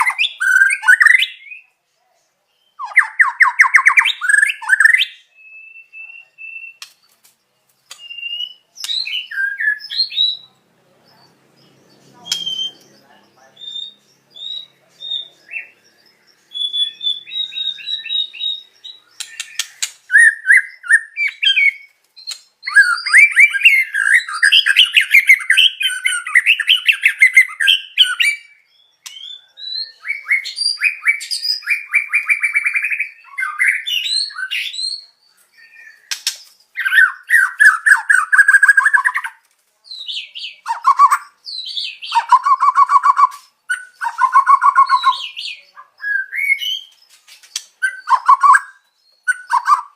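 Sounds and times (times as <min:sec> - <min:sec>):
songbirds singing trilled phrases: 0:00.0 - 0:49.9.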